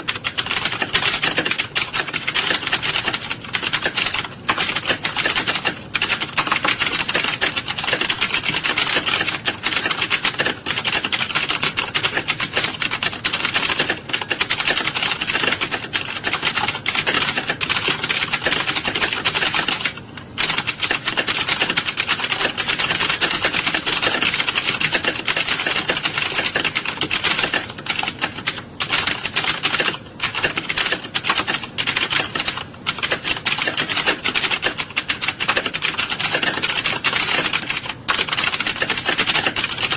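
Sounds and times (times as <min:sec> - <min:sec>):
keyboards clattering: 0:00.0 - 0:39.9.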